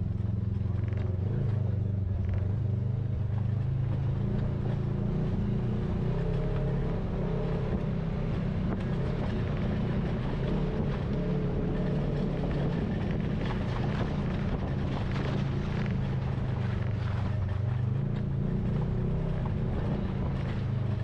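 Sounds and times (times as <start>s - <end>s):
off-road vehicle engine droning: 0.0s - 21.0s.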